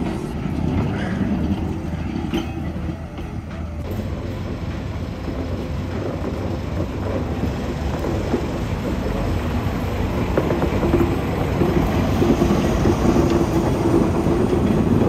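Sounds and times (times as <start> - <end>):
locomotive engine hum: 0.0 - 15.0
train wheels rolling on rails: 0.0 - 15.0.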